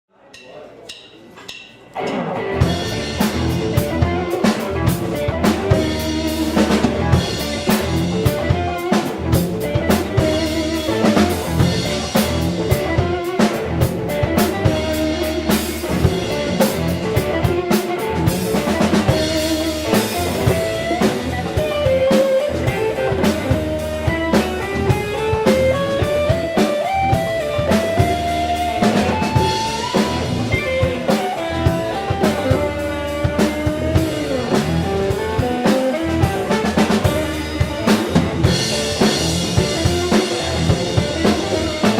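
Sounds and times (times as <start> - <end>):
drum kit rimshots: 0.3 - 41.9
guitar melody rising: 1.9 - 41.9
live blues band: 1.9 - 41.9.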